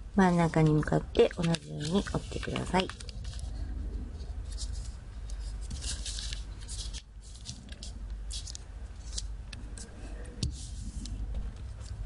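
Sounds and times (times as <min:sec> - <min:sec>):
paper being folded and creased: 0:00.6 - 0:12.0.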